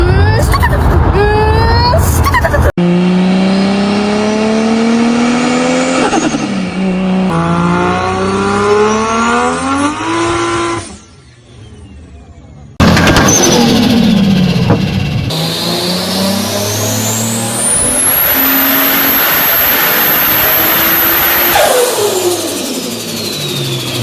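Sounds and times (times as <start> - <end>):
car engine accelerating: 2.7 - 24.0.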